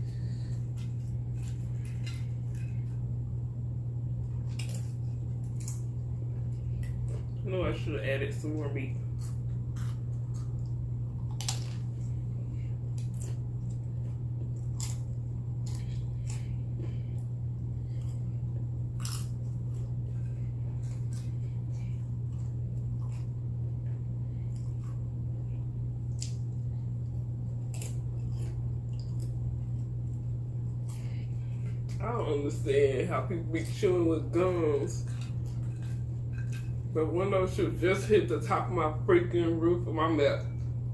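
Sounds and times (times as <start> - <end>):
low hum: 0.0 - 40.9
chips crunching while chewed: 0.3 - 3.1, 4.2 - 25.2, 27.4 - 36.9.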